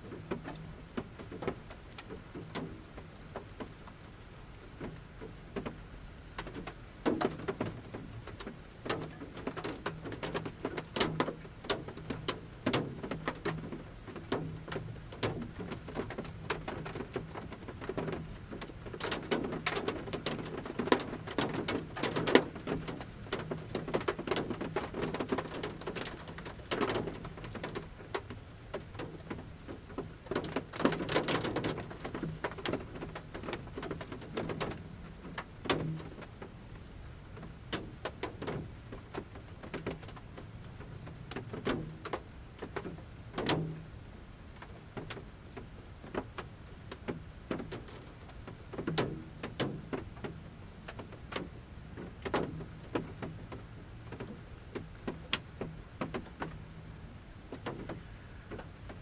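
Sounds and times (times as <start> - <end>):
raindrops tapping on van roof: 0.0 - 59.0.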